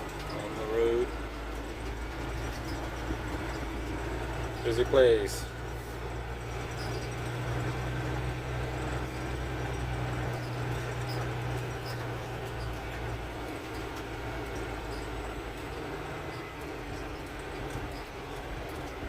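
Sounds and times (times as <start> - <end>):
road rumble: 0.0 - 19.0
truck engine drone: 0.0 - 19.0.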